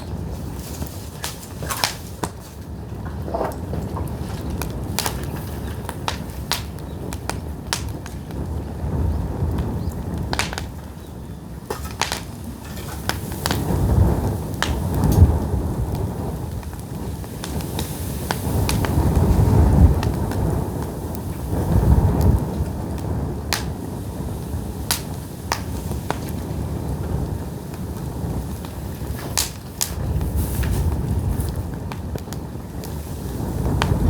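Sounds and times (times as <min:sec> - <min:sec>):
firewood crackling and popping: 0:00.0 - 0:34.0
low rumble of flames: 0:00.0 - 0:34.0.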